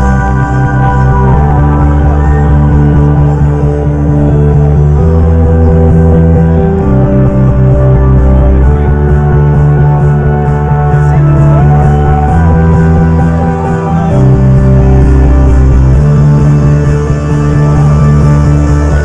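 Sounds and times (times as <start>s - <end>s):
trance music: 0.0s - 19.0s.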